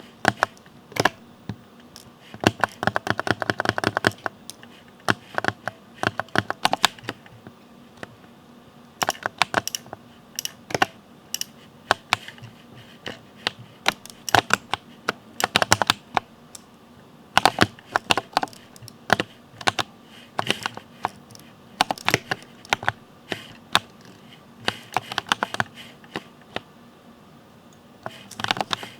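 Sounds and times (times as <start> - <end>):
mechanical keyboard typing: 0.2 - 1.2, 2.0 - 8.1, 9.0 - 12.5, 13.1 - 14.8, 15.4 - 16.7, 17.4 - 26.2, 28.1 - 28.9.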